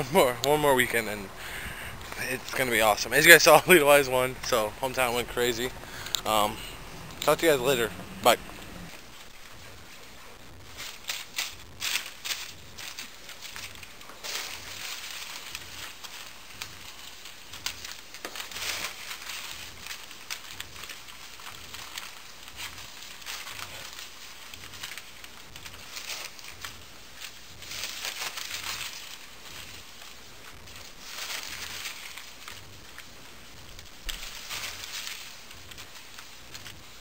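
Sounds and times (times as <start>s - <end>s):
paper bills rustling and crinkling: 0.0s - 37.0s.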